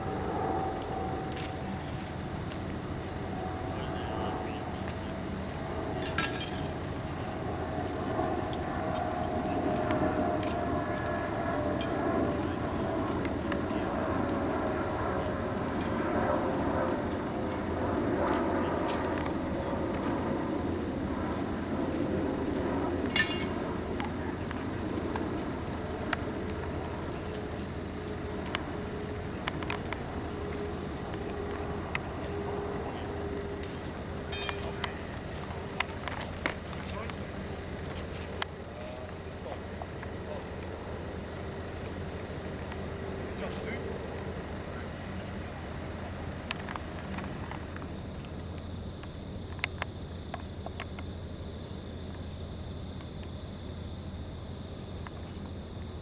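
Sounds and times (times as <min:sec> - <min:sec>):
diesel locomotive droning: 0:00.0 - 0:56.0
faint steady tone: 0:00.0 - 0:56.0.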